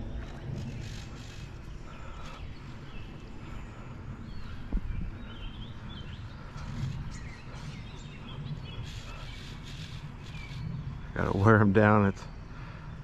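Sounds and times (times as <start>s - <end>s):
low rumble: 0.0s - 13.0s
small birds chirping: 0.3s - 13.0s.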